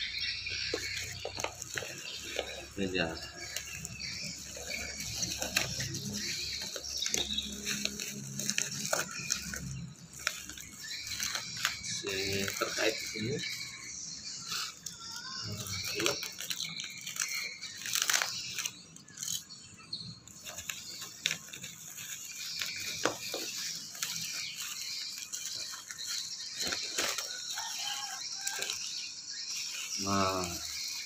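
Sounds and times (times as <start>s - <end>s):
plastic wrap crinkling: 0.0s - 19.6s, 20.3s - 31.0s
packaging being cut and torn: 0.6s - 13.8s, 14.4s - 19.5s, 20.3s - 28.9s, 29.5s - 31.0s.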